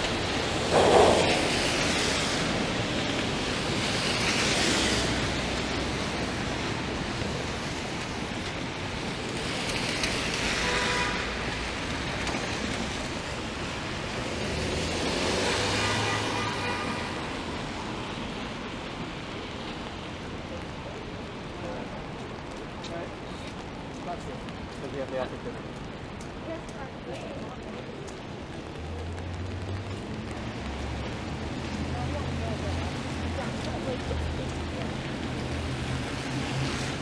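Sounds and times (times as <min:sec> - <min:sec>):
rain hiss: 0:00.0 - 0:37.0
vehicles passing on wet road: 0:00.0 - 0:37.0.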